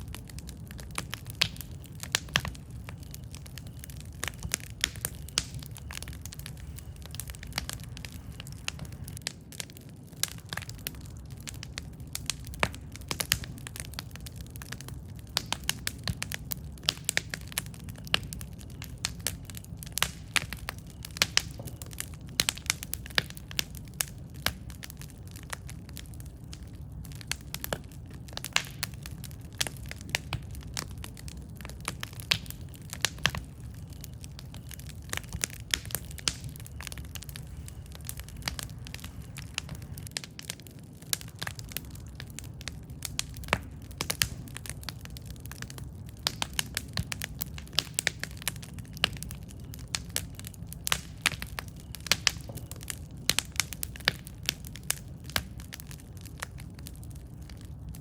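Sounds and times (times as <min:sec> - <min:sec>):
burning wood crackling and popping: 0:00.0 - 0:58.0
low rumble of flames: 0:00.0 - 0:58.0.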